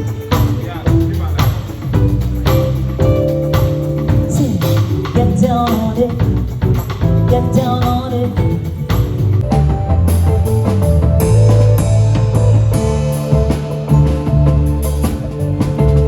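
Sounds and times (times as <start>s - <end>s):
bass: 0.0s - 16.0s
drum kit beat: 0.0s - 16.0s
guitar: 0.0s - 16.0s.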